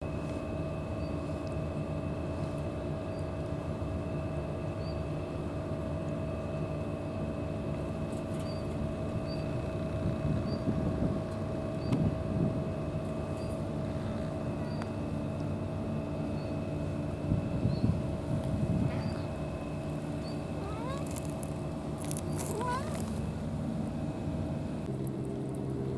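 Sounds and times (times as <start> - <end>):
mechanical drone with hum: 0.0 - 25.9.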